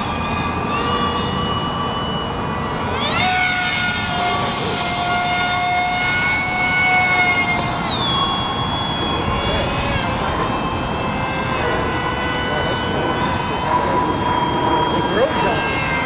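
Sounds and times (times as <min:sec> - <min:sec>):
model airplane motor whining: 0:00.0 - 0:16.0.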